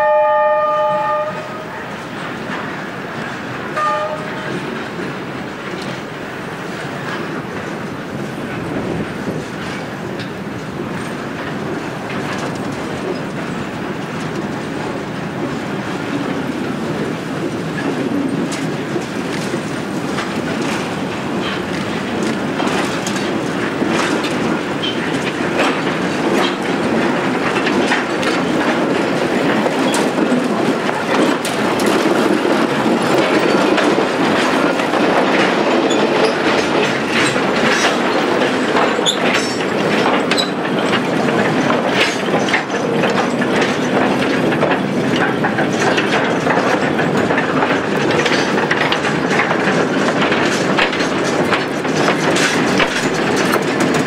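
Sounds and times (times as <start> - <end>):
electric locomotive passing: 0.0 - 54.0
wheels clattering over rail joints: 0.2 - 54.0.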